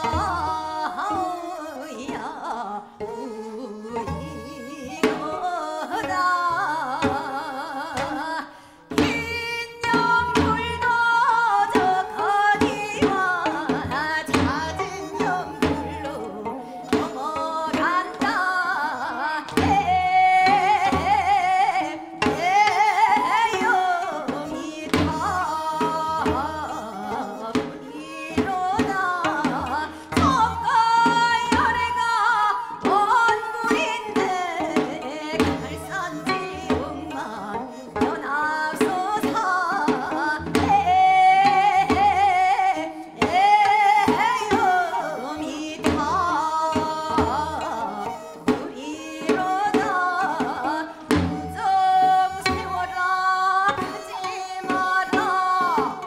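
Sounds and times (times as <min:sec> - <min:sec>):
folk song with wavering vibrato: 0:00.0 - 0:56.0.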